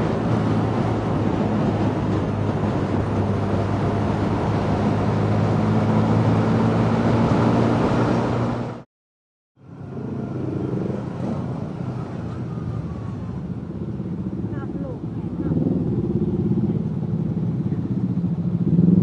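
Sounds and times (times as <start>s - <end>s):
motorcycle engine cruising: 0.0s - 8.8s, 9.6s - 19.0s
wind and road noise: 0.0s - 8.9s, 9.6s - 19.0s.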